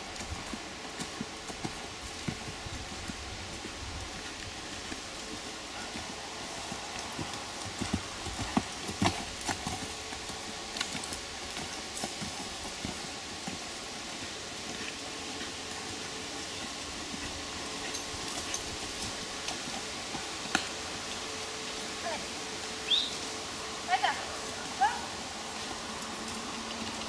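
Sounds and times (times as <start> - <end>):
horse hooves on dirt: 0.0 - 27.0
steady hiss: 0.0 - 27.0.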